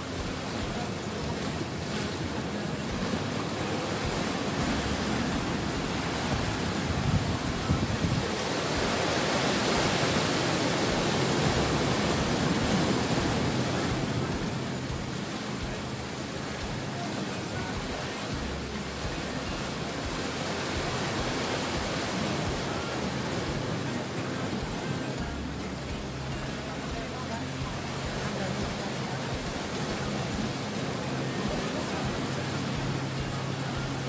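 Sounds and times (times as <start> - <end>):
surf washing against rocky shore: 0.0 - 34.0.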